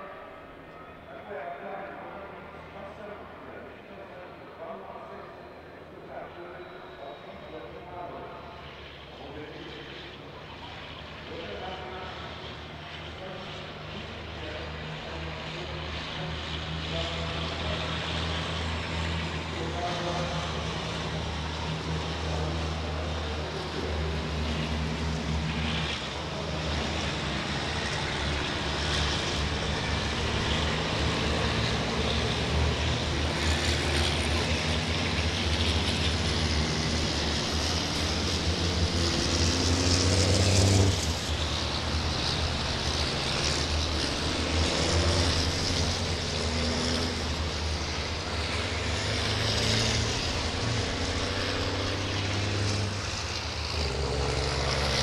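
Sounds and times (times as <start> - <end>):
diesel truck engine running hard: 1.0 - 55.0.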